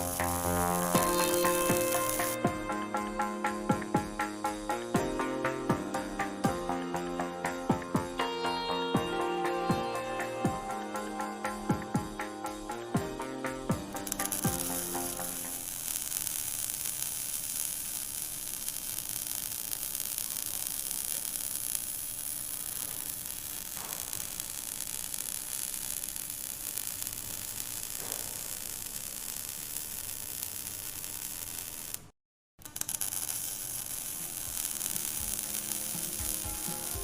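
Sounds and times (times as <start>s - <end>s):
welding arc crackling hiss: 0.0s - 37.0s.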